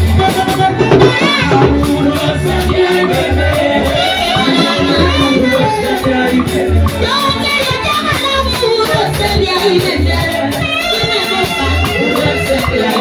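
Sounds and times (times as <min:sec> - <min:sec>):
amplified music with pulsing bass: 0:00.0 - 0:13.0
woman singing through microphone: 0:00.1 - 0:13.0.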